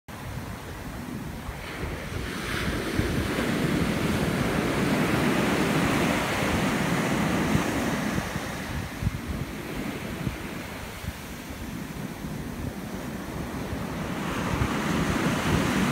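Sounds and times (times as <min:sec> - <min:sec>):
ocean surf breaking: 0:00.1 - 0:15.9
wind buffeting microphone: 0:00.1 - 0:15.9.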